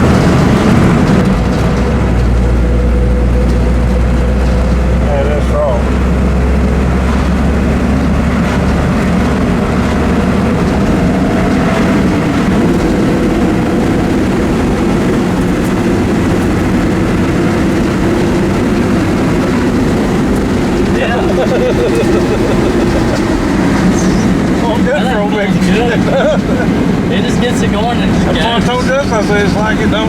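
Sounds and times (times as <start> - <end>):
diesel truck engine running: 0.0 - 30.0
road noise: 0.0 - 30.0
truck rattles: 0.0 - 30.0.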